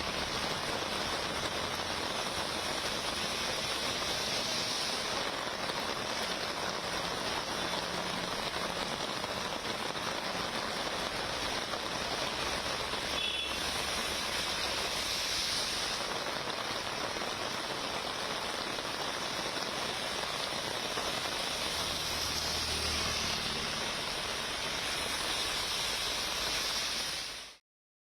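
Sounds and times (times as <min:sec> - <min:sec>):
heavy rain falling: 0:00.0 - 0:27.6.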